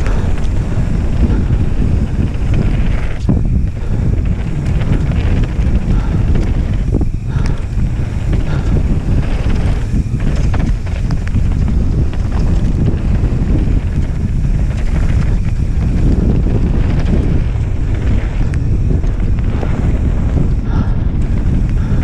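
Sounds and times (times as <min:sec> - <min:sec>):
bike clicks and rattles: 0:00.0 - 0:22.0
tyre rumble: 0:00.0 - 0:22.0
wind buffeting microphone: 0:00.0 - 0:22.0.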